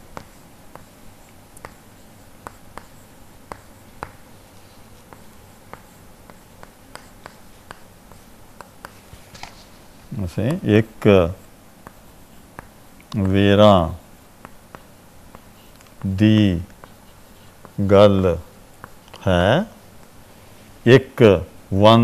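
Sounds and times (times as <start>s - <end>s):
chalk tapping and scratching: 0.0s - 13.6s, 14.4s - 19.2s.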